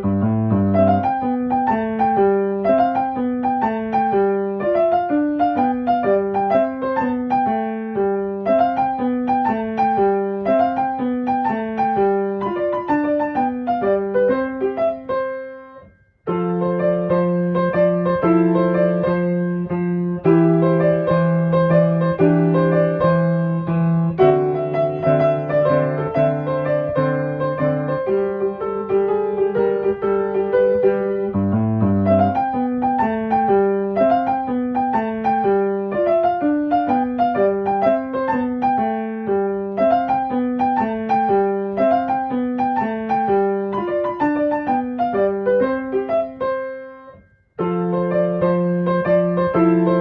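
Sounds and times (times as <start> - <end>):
piano music: 0.0 - 50.0.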